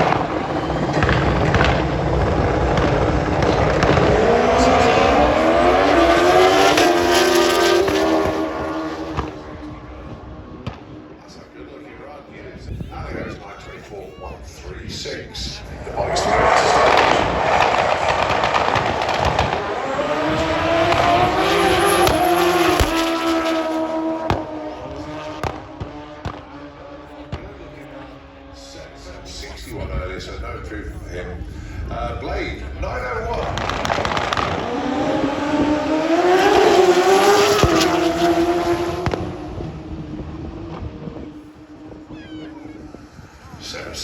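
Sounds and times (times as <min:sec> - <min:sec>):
loud crackling exhaust: 0:00.0 - 0:13.8, 0:14.4 - 0:44.0
motorcycles at full throttle: 0:00.0 - 0:44.0.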